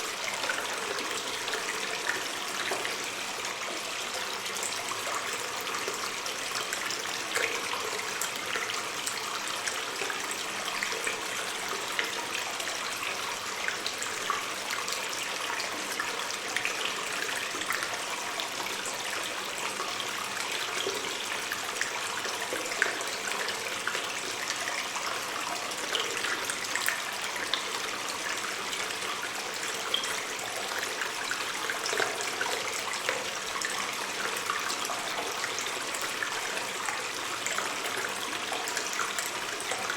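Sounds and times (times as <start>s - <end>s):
water drips and splashes: 0.0s - 39.9s
water stream trickling: 0.0s - 39.9s.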